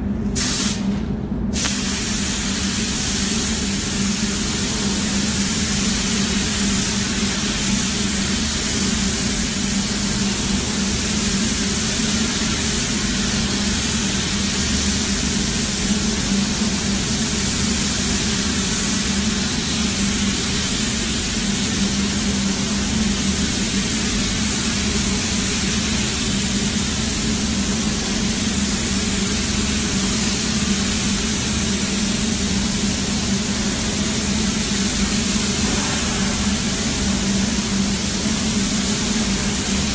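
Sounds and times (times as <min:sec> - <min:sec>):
steady low hum: 0:00.0 - 0:39.9
paint spray gun hissing: 0:00.4 - 0:00.9, 0:01.6 - 0:39.9.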